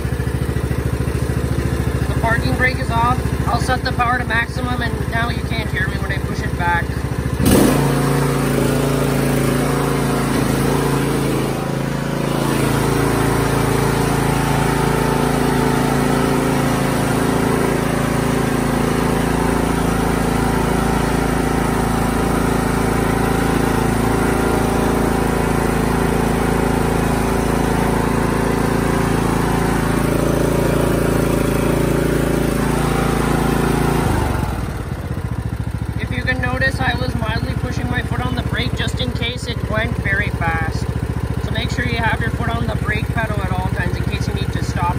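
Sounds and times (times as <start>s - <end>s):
riding mower engine running: 0.0s - 44.9s.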